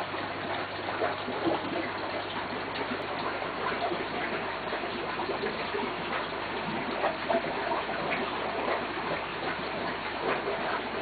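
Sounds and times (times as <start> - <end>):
bubbling trickling water: 0.0 - 11.0.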